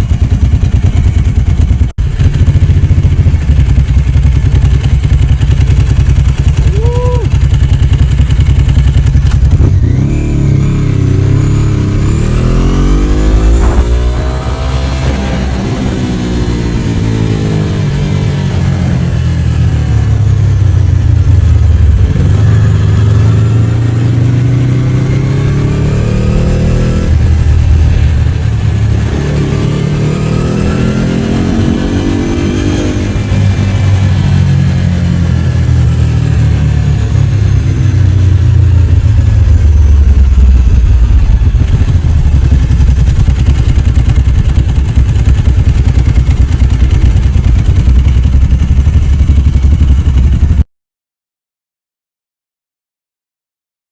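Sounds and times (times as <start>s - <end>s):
motorcycle engine revving: 0.0s - 50.6s.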